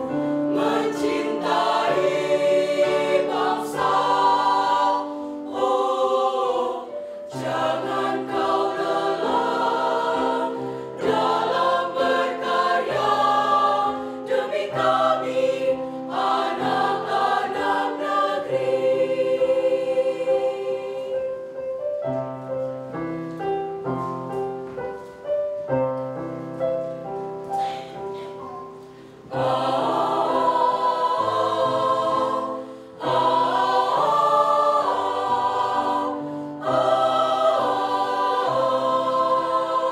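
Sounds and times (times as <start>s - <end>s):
mixed choir singing in parts: 0.0s - 21.6s, 29.1s - 39.9s.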